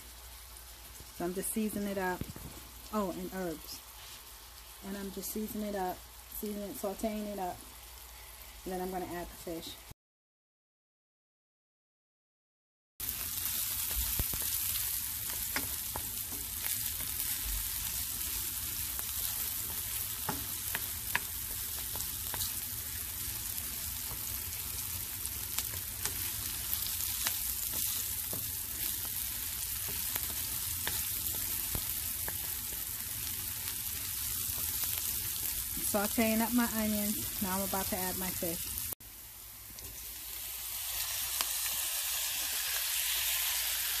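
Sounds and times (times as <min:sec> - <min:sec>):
onions sizzling in oil: 0:00.0 - 0:09.9, 0:13.0 - 0:44.0.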